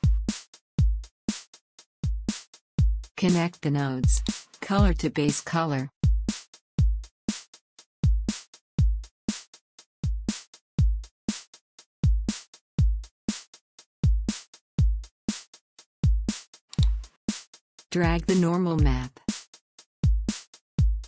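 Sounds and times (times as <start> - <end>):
drum-machine beat: 0.0 - 21.0.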